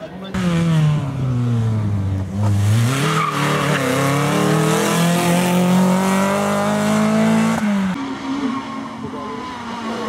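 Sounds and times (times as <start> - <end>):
rally car engine accelerating: 0.3 - 10.0.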